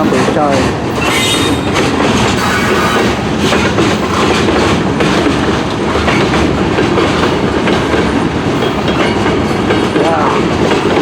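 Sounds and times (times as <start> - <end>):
steel wheels clattering on rails: 0.0 - 11.0
train rushing past: 0.0 - 11.0.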